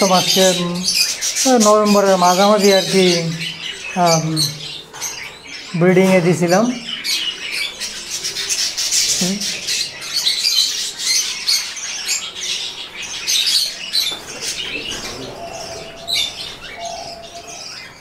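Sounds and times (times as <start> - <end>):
budgerigars chattering and chirping: 0.0 - 18.0.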